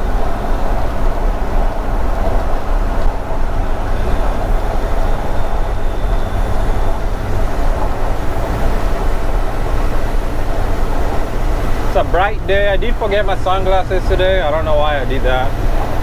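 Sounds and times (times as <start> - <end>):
truck cab road and engine rumble: 0.0 - 16.0.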